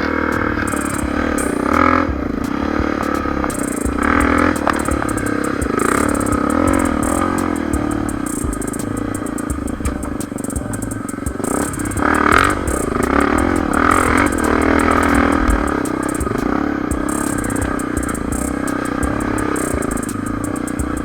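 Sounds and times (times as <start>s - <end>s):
background music: 0.0s - 21.0s
motorcycle engine revving: 0.0s - 21.0s.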